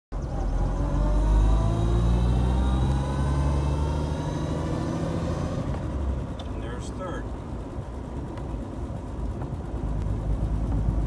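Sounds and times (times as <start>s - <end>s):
car engine running inside cabin: 0.2s - 11.0s.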